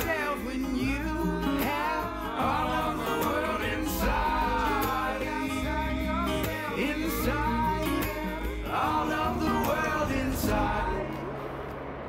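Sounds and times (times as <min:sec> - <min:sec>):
acoustic guitar song: 0:00.0 - 0:11.8.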